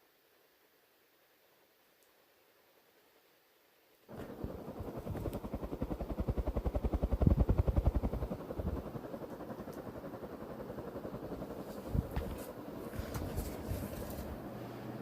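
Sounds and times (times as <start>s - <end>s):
ceiling fan blades pulsing: 0.0s - 15.0s.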